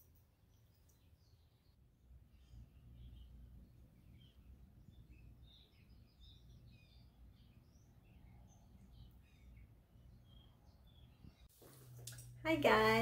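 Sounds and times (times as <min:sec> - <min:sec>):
bird chirps: 0:00.0 - 0:11.5
faint room rumble: 0:00.0 - 0:13.0.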